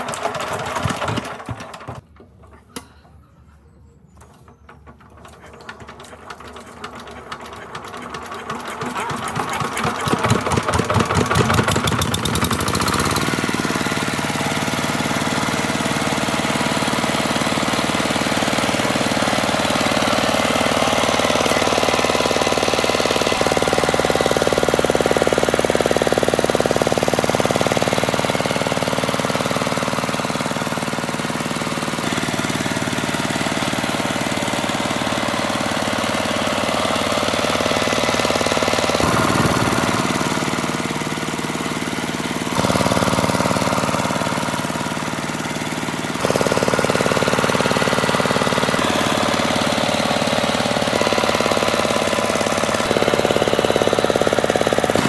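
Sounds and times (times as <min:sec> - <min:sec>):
motorcycle engine knocking: 0:00.0 - 0:02.1, 0:04.8 - 0:55.0.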